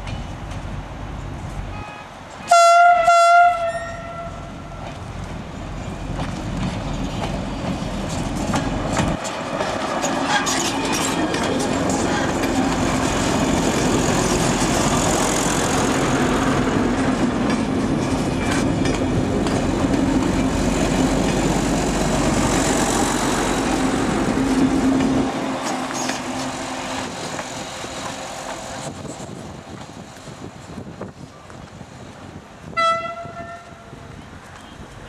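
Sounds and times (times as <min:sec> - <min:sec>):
diesel railcar engines humming: 0:00.0 - 0:35.0
train on rails: 0:00.0 - 0:35.0.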